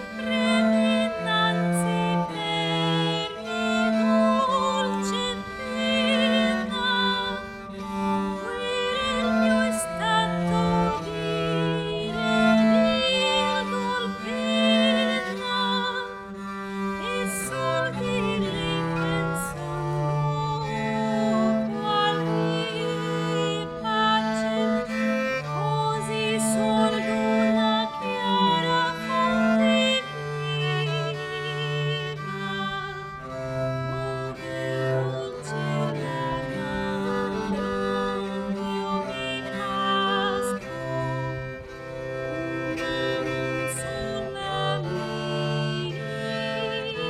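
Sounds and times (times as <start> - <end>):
bowed strings holding bass notes: 0.0 - 47.0.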